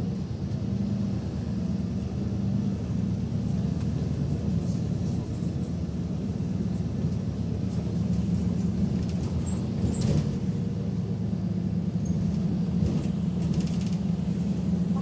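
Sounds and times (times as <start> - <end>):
bus engine drone from inside: 0.0 - 15.0.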